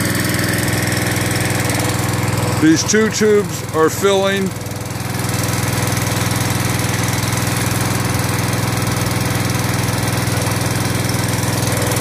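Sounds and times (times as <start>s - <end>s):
water pump engine running: 0.0s - 12.0s.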